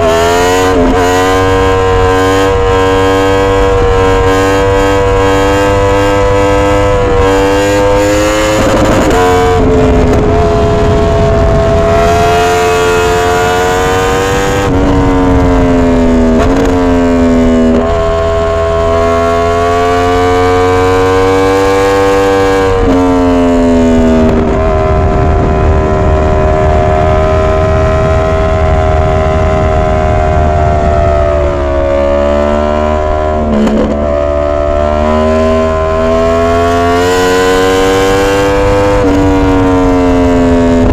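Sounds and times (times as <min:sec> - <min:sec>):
motorcycle engine howling: 0:00.0 - 0:40.9.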